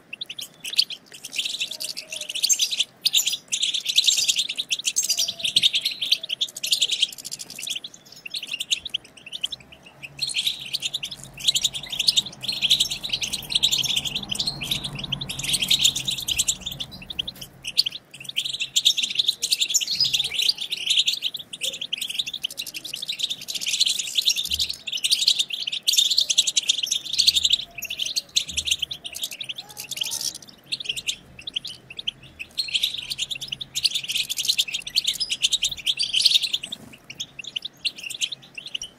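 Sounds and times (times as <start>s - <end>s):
goldfinch twittering: 0.0s - 38.9s.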